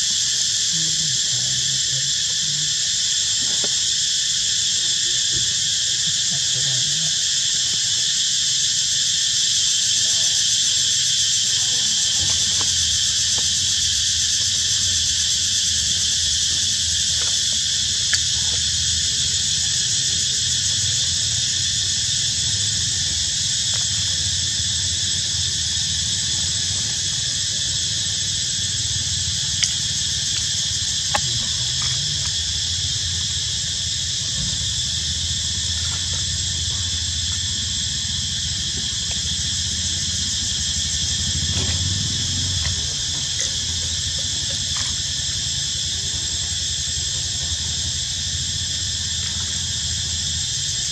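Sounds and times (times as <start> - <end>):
insect chorus droning: 0.0 - 50.9.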